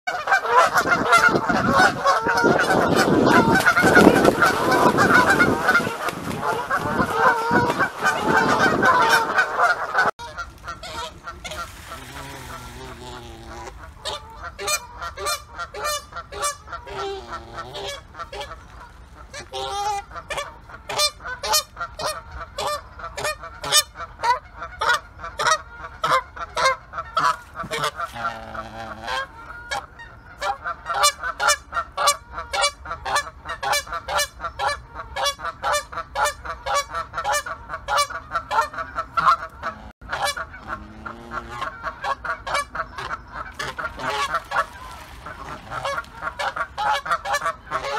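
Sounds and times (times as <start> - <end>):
geese honking: 0.1 - 47.9.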